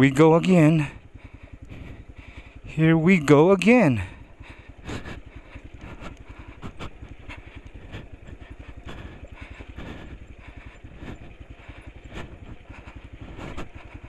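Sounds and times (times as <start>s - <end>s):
motorcycle engine chugging: 0.0s - 14.0s.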